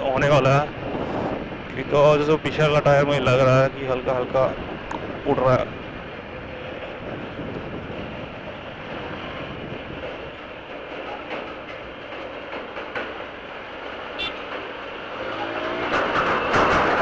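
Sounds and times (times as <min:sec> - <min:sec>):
wind and road rush: 0:00.0 - 0:17.0.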